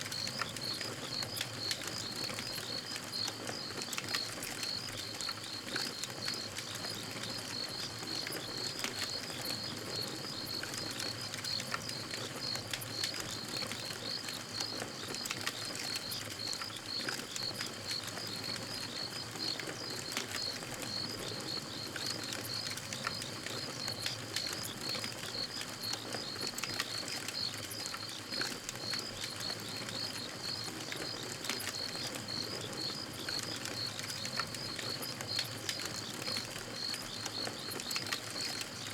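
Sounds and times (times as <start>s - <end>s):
campfire crackling and popping: 0.1s - 38.9s.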